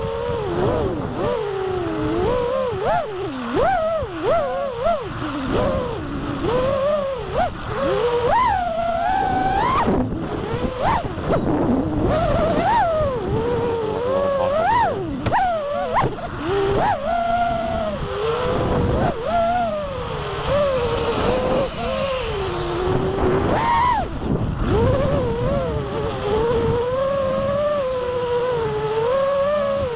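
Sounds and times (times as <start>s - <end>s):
quadcopter motors whining: 0.0s - 29.9s.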